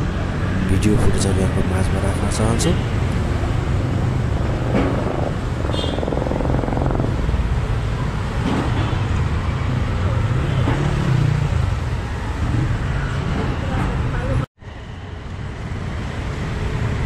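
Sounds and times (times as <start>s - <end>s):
passing vehicle engines rumbling: 0.0s - 17.0s.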